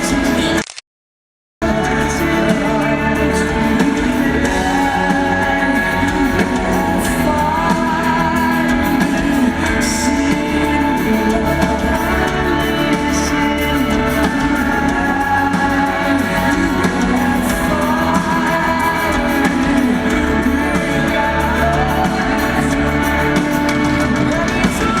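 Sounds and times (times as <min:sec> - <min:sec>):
live rock band playing: 0:00.0 - 0:00.6, 0:01.6 - 0:25.0
person singing: 0:00.0 - 0:00.6, 0:01.6 - 0:25.0.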